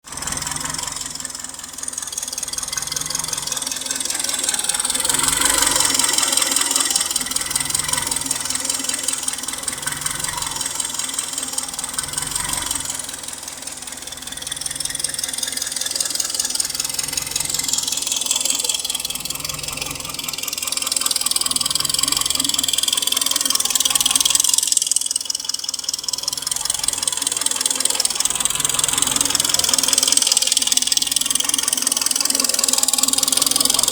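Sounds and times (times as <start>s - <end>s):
car engine idling: 0.0s - 33.9s
engine knocking tick: 0.0s - 33.9s.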